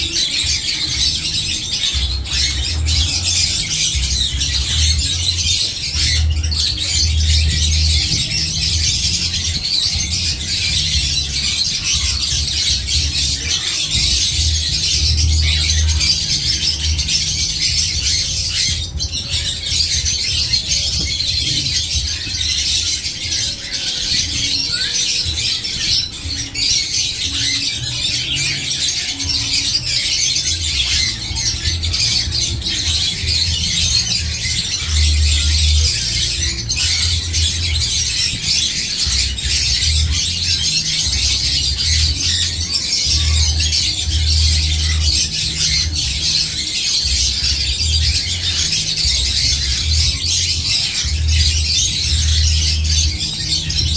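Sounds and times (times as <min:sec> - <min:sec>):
birds chirping and squawking: 0:00.0 - 0:53.9
harsh bird calls: 0:00.0 - 0:53.9.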